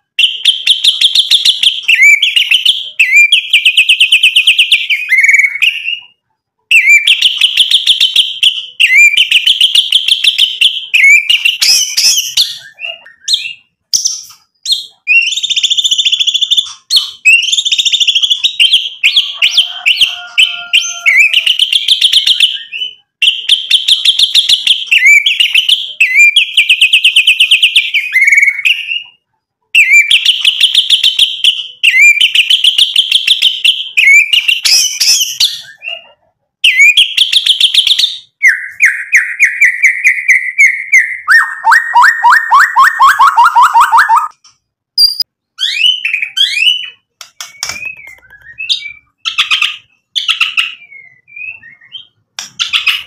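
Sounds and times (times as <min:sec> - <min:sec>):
songbird whistling: 0:00.1 - 0:06.1, 0:06.7 - 0:29.1, 0:29.8 - 0:44.3, 0:45.0 - 0:53.0.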